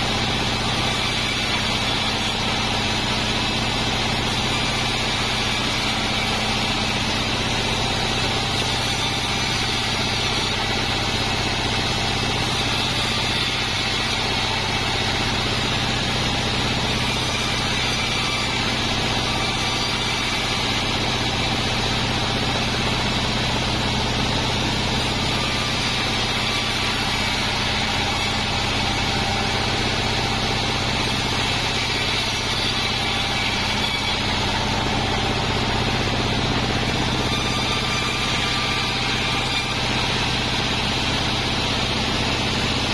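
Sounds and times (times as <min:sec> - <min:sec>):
band saw running: 0:00.0 - 0:42.9.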